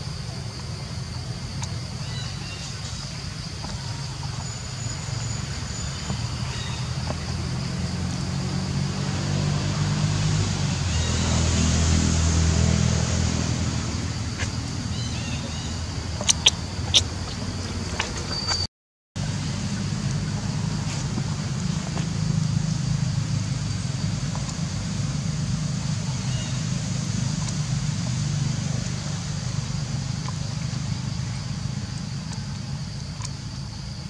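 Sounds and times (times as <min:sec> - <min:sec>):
passing vehicle engine rumble: 0:00.0 - 0:33.7.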